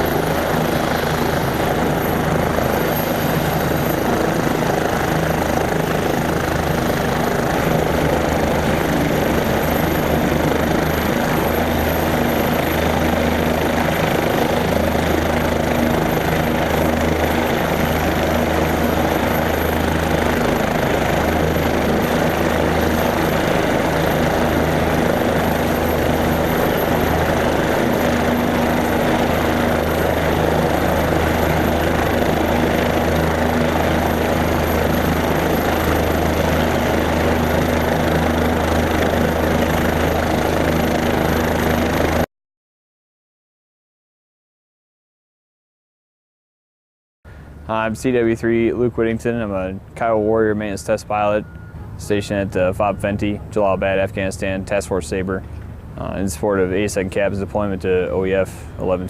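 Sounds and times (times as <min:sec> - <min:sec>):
helicopter drone: 0:00.0 - 0:42.3, 0:47.3 - 0:59.0.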